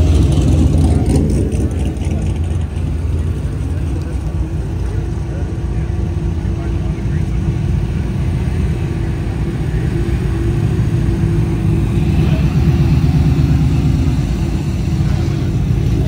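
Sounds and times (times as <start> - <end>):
car engine rumbling past: 0.0 - 16.0.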